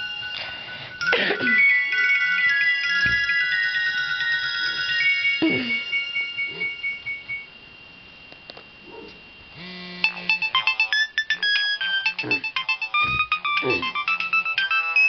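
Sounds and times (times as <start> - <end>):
mobile phone ringtones: 0.0 - 7.5, 9.7 - 15.0.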